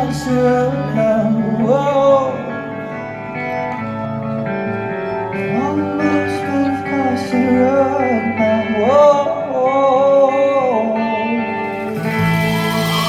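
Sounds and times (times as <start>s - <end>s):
man singing: 0.0s - 4.4s, 5.2s - 12.1s
guitar: 0.0s - 13.0s.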